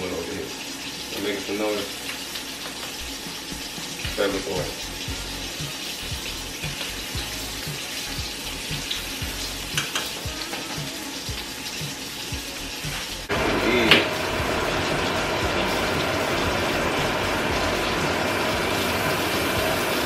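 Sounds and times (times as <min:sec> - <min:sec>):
food sizzling in frying pans: 0:00.0 - 0:20.0.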